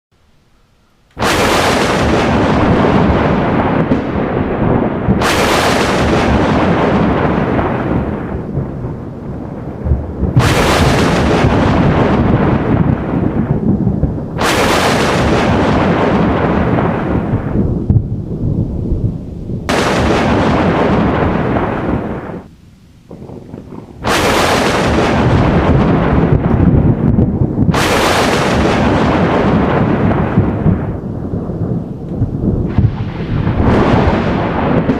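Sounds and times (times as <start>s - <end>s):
thunder cracking and rumbling: 1.2s - 34.9s.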